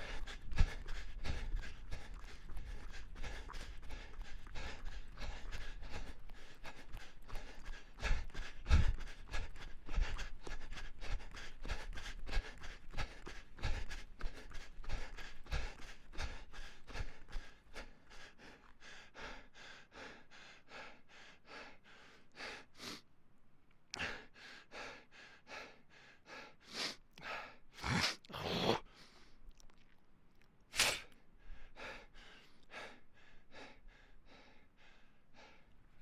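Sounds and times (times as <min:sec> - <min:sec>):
person panting: 0:00.0 - 0:23.0, 0:24.0 - 0:29.4, 0:30.9 - 0:35.8.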